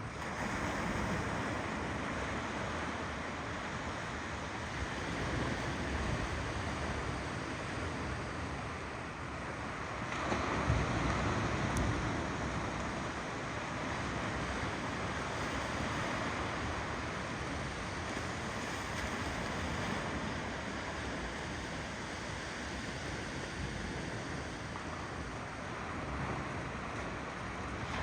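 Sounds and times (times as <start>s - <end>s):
ocean waves washing on shore: 0.0s - 28.0s.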